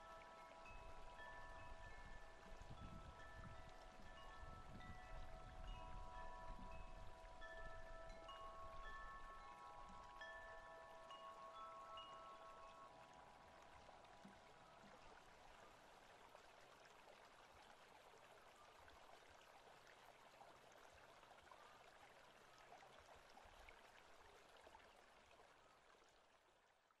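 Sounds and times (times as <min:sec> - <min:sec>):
running water: 0:00.0 - 0:26.9.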